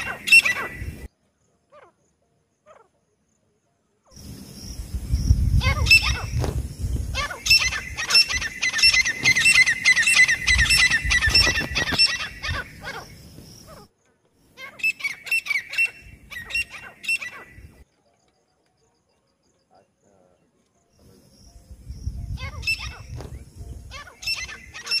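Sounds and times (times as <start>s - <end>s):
francolins calling: 0.0s - 1.1s, 4.0s - 25.0s.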